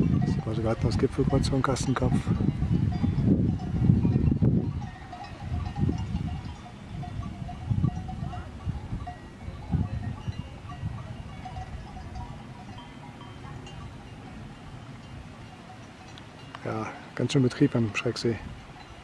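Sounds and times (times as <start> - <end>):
distant livestock bells: 0.0 - 19.0.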